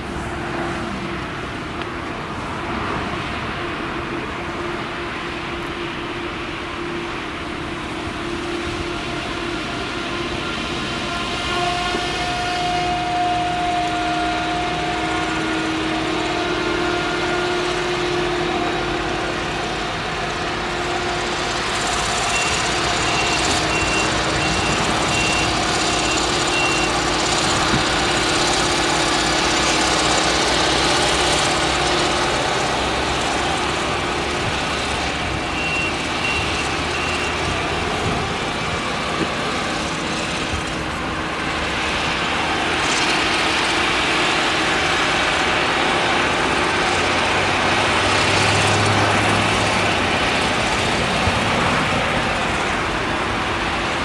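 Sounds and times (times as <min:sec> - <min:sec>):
harvester engine droning under load: 0:00.0 - 0:54.0.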